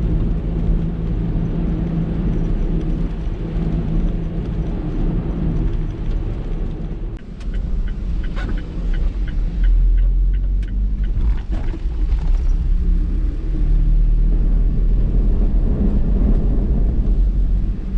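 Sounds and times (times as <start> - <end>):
storm surf rumble: 0.0 - 17.9
wind buffeting microphone: 0.0 - 17.9.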